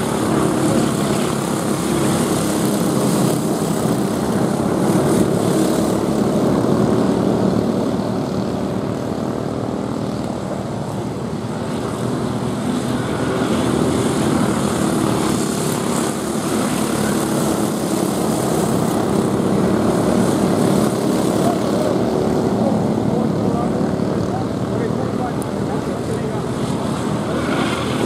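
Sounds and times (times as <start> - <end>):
go-kart engines buzzing: 0.0 - 28.0.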